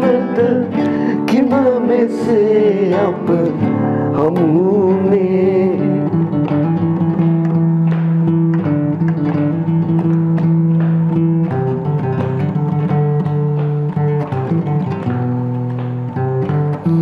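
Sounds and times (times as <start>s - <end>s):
classical guitar fingerpicked: 0.0s - 17.0s.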